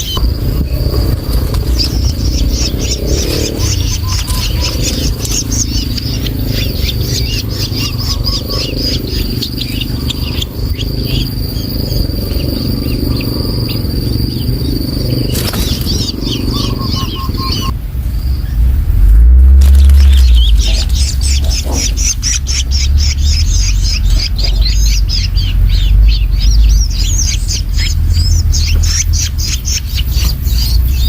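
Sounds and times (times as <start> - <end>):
nestlings chirping: 0.0 - 18.7, 19.6 - 31.0
constant low rumble: 0.0 - 31.0.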